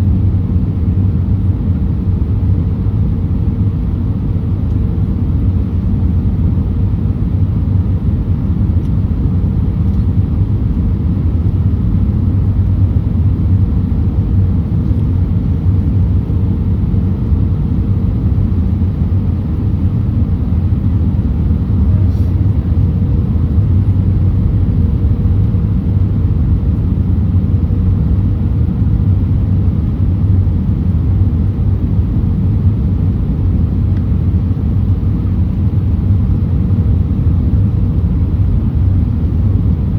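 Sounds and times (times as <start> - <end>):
aircraft cabin engine rumble: 0.0 - 39.9
faint steady hum: 0.0 - 39.9.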